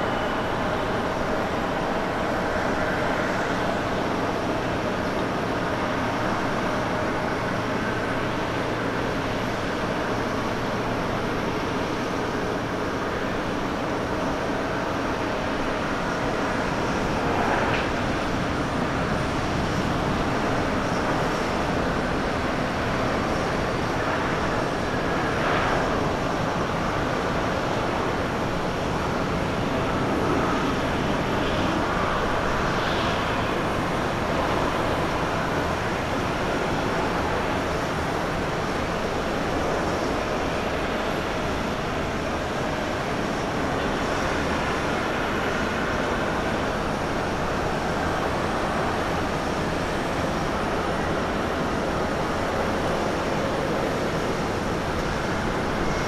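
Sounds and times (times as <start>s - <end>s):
distant jet engines whining: 0.0s - 56.0s.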